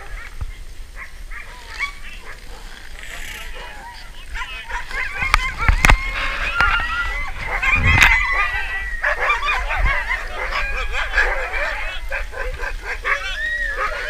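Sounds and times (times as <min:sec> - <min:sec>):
sled dogs barking and yelping: 0:00.0 - 0:14.0.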